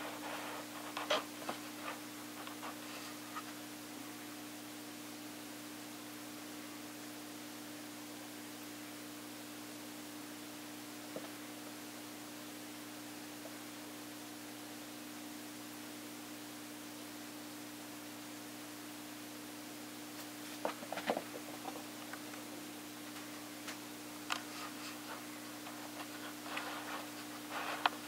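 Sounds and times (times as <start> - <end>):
room hum and hiss: 0.0 - 28.0.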